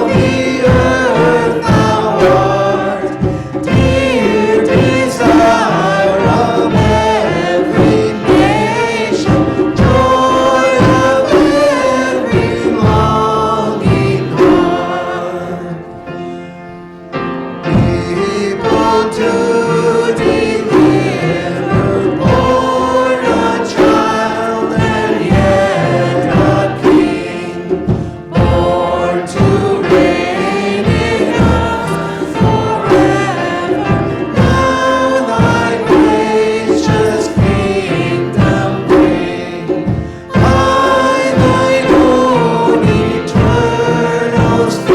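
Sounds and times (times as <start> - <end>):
choir singing worship music: 0.0 - 44.9.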